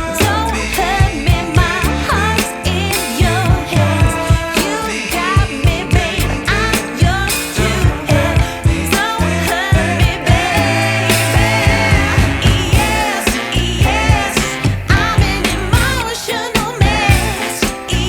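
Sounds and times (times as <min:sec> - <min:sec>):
pop song with woman singing: 0:00.0 - 0:18.0.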